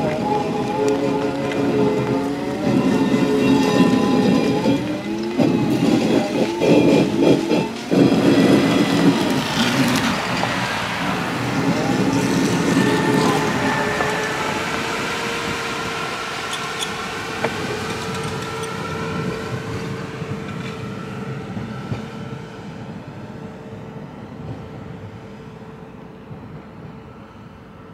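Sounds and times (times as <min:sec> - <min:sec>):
streetcar whining and grinding snow: 0:00.0 - 0:27.9.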